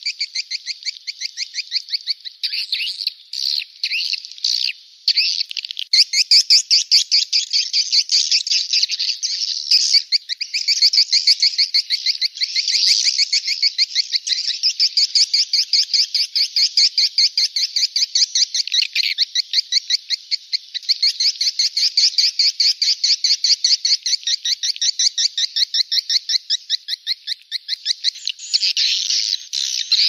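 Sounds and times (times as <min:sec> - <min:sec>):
swiftlet twittering chirps: 0:00.0 - 0:30.0.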